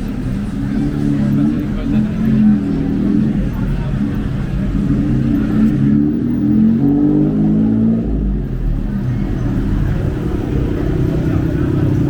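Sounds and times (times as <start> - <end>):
street traffic: 0.0 - 12.0
vehicle engine accelerating: 0.0 - 12.0.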